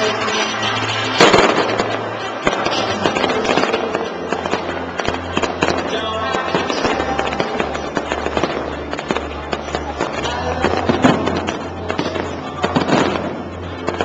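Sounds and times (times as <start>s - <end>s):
fireworks bangs and crackles: 0.0s - 14.0s
music with bass line: 0.0s - 14.0s.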